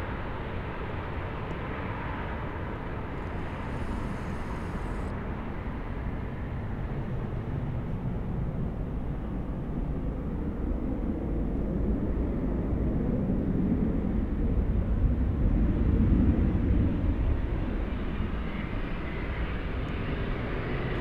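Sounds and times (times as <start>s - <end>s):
jet engines low rumble: 0.0s - 21.0s.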